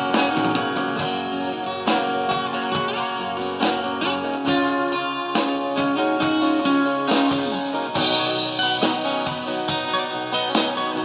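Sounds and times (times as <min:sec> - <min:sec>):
acoustic guitars strumming: 0:00.0 - 0:11.0
bass guitar: 0:00.0 - 0:11.0
held melody line: 0:00.0 - 0:11.0.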